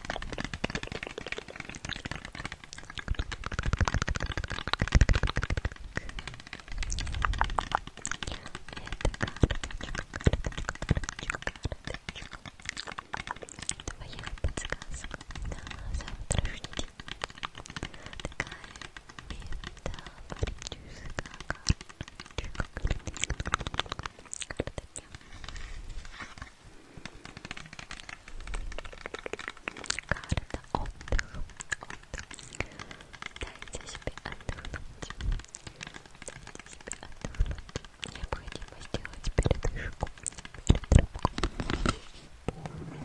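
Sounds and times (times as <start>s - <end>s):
small clicks and crackles: 0.0s - 43.0s.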